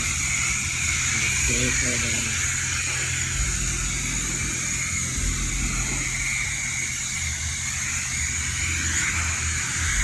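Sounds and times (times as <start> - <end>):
pressure washer spraying car: 0.0 - 10.0.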